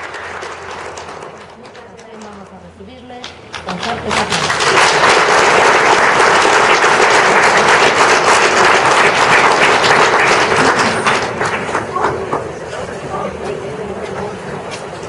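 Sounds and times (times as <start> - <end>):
audience applauding: 0.0 - 2.5, 3.3 - 13.4.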